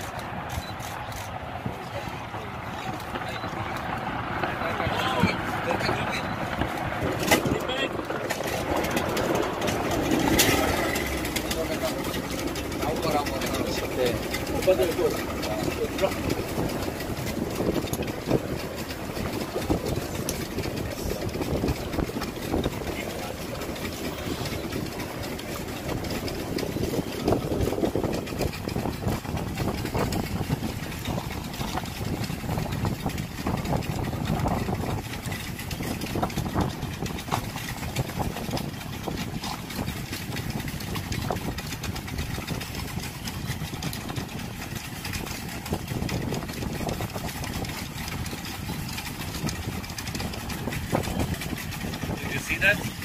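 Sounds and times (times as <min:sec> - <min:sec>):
volcano low rumble: 0:00.0 - 0:53.0.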